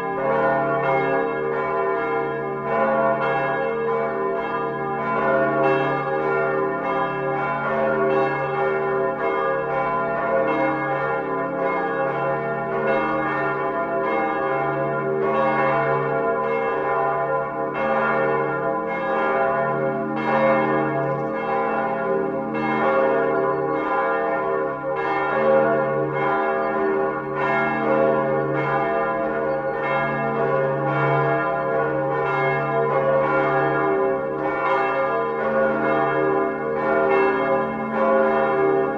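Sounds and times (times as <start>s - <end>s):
large church bell ringing: 0.0s - 38.9s.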